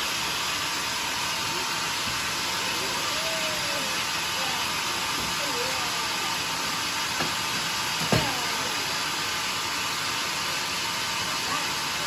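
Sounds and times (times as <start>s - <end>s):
sawmill running: 0.0s - 12.0s.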